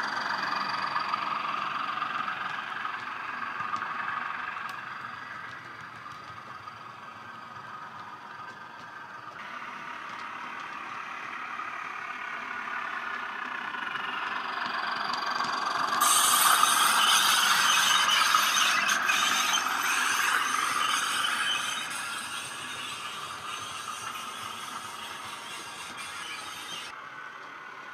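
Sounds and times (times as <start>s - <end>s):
model coach wheels rattling on track: 0.0s - 26.9s
model diesel engine sound from speaker: 0.0s - 27.9s.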